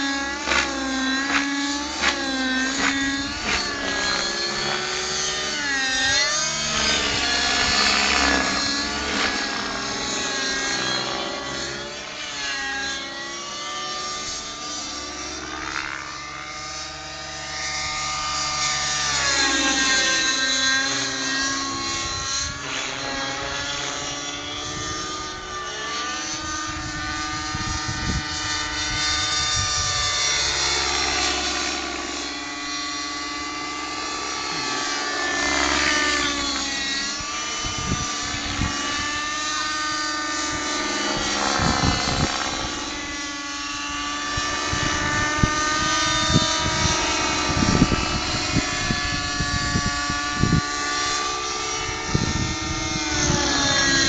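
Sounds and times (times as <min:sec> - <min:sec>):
model helicopter engine whine: 0:00.0 - 0:54.0.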